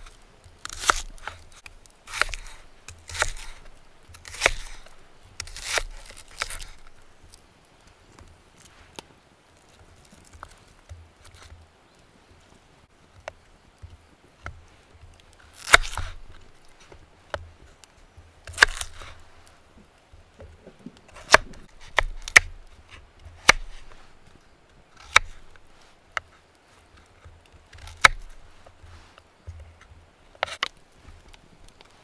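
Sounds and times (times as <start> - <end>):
blade chopping wood: 0.0 - 7.4, 13.2 - 32.0.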